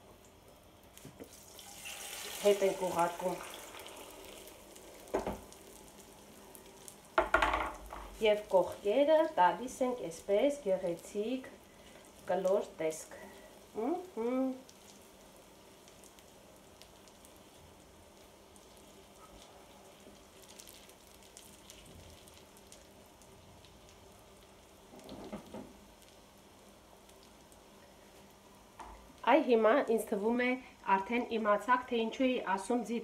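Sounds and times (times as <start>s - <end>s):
omelette sizzling in a pan: 0.0s - 33.0s.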